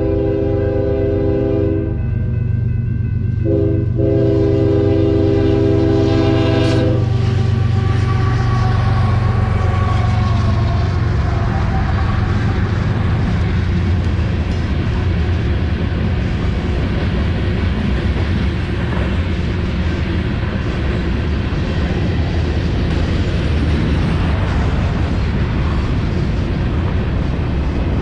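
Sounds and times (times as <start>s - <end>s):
freight train passing: 0.0s - 28.0s.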